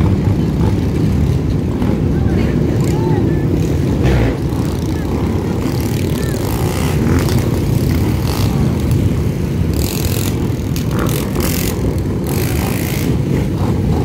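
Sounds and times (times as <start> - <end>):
dirt bike and motorcycle engines: 0.0 - 14.0
motorcycles riding slowly past: 0.0 - 14.0.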